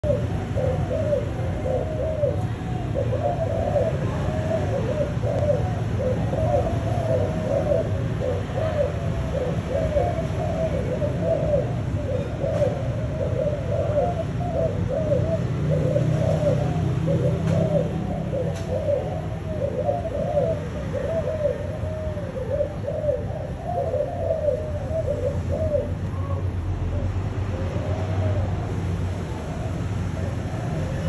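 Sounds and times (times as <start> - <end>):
dove cooing rapidly: 0.0 - 31.0.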